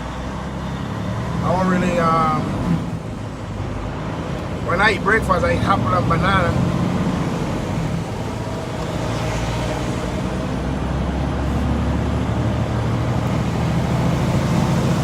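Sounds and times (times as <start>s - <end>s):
road and tyre noise: 0.0s - 15.0s
truck engine hum: 0.0s - 15.0s.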